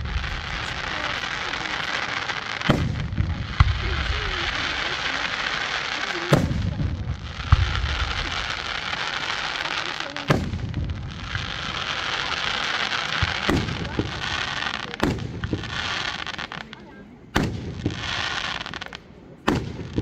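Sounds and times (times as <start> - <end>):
firework shells bursting: 0.0 - 16.6
steady hiss: 0.0 - 16.8.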